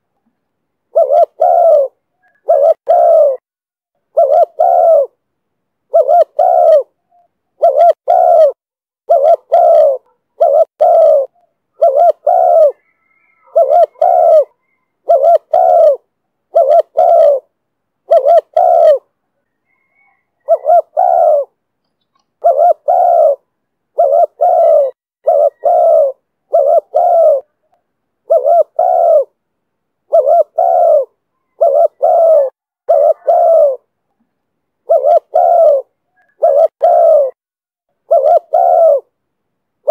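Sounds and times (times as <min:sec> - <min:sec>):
dove cooing: 0:00.9 - 0:03.5, 0:04.1 - 0:05.2, 0:05.9 - 0:29.4, 0:30.1 - 0:33.9, 0:34.8 - 0:37.4, 0:38.0 - 0:39.2.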